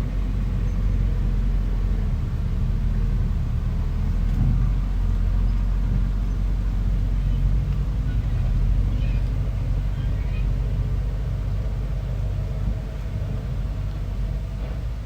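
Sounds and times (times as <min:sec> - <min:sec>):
bulldozer diesel engine rumbling: 0:00.0 - 0:15.0.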